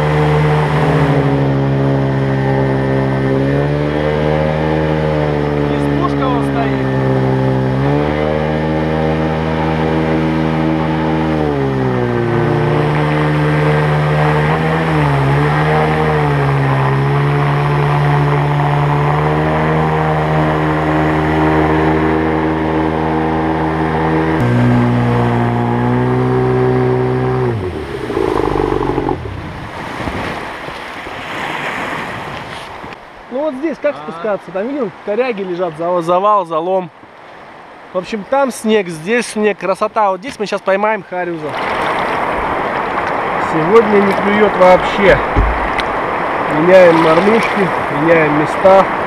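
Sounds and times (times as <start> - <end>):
jet boat engine: 0.0 - 33.0, 41.4 - 49.0
river rushing: 0.0 - 36.2, 41.3 - 49.0.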